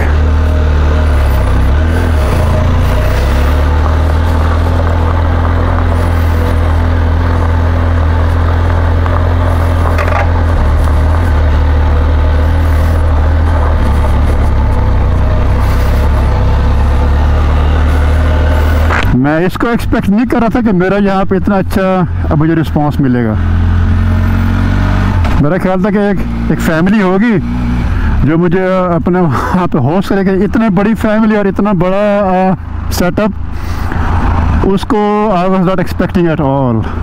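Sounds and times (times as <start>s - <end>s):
motorcycle engine running: 0.0s - 35.8s.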